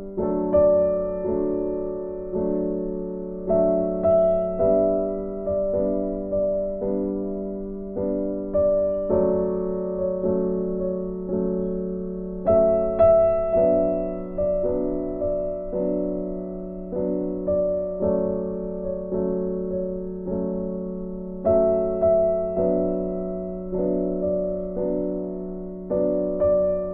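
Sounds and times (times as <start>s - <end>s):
gentle piano piece: 0.0s - 26.9s.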